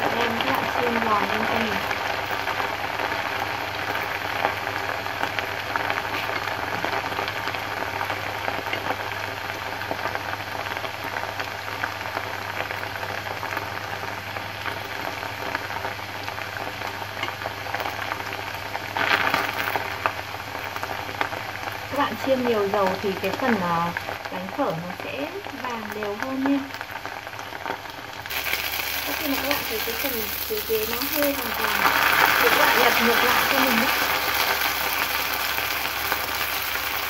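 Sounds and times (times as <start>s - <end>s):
noodles deep-frying sizzle: 0.0s - 37.0s.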